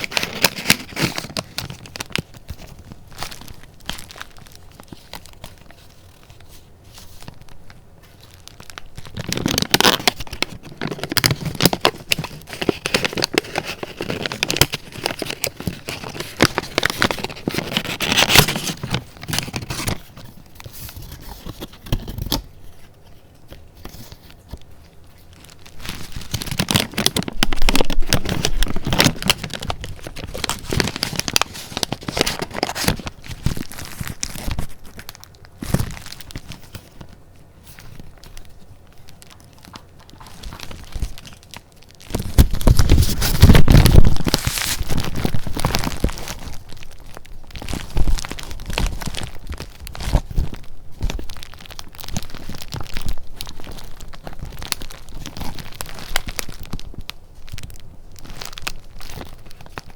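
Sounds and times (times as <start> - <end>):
paper rustling and crinkling: 0.0 - 59.9.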